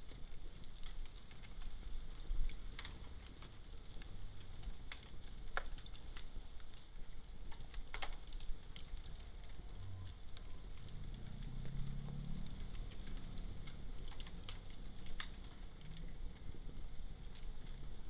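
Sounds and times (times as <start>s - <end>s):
fire popping: 0.0s - 18.0s
low steady rumble: 0.0s - 18.0s
wood fire crackling: 0.0s - 18.0s.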